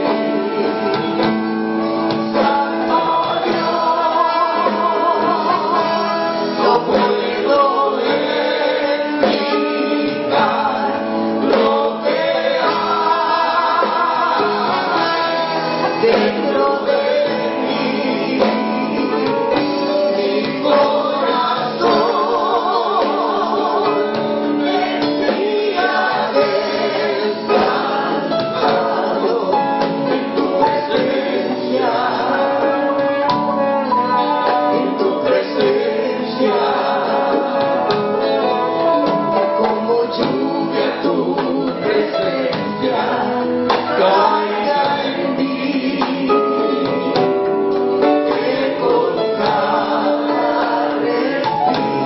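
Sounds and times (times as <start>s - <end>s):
drums and congas: 0.0s - 52.0s
voices singing together: 0.0s - 52.0s.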